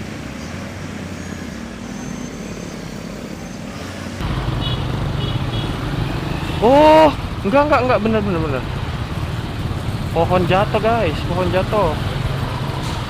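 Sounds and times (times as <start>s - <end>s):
traffic jam noise: 0.0s - 13.0s.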